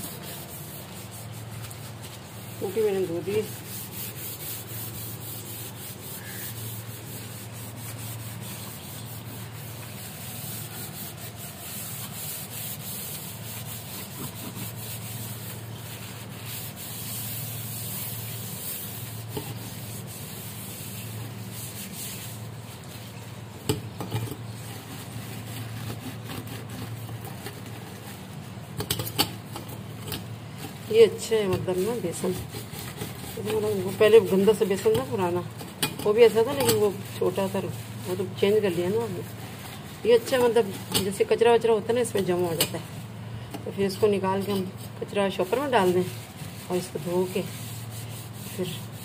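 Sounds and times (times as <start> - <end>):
scrubbing metal sink: 0.0 - 49.0.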